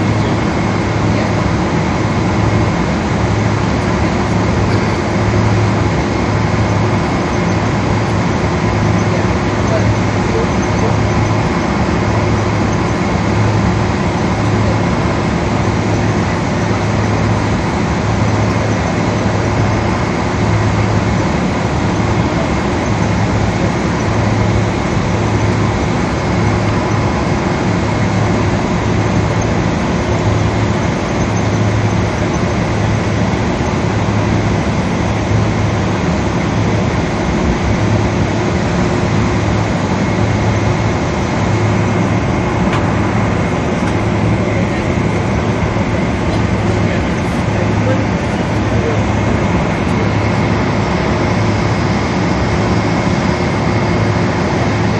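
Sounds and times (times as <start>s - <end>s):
jet engine and airflow noise: 0.0s - 54.9s
low pulsing hum: 0.0s - 54.9s.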